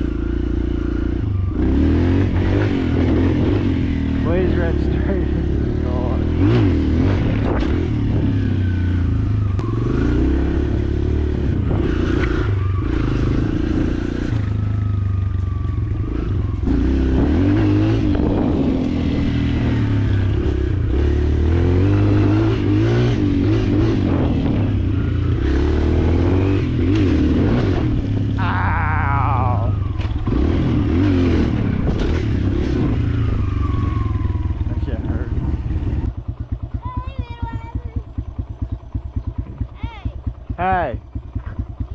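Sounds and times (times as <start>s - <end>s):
dirt bike engine revving: 0.0s - 36.8s.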